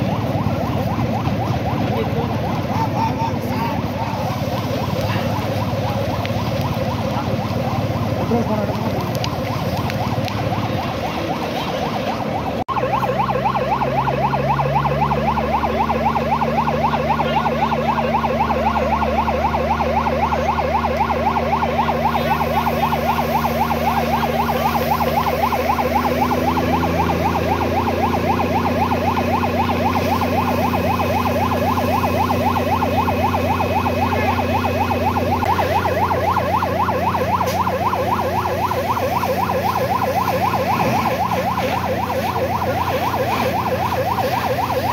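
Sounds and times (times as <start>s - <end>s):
siren warbling: 0.0s - 44.9s
vehicle engine running: 0.0s - 44.9s.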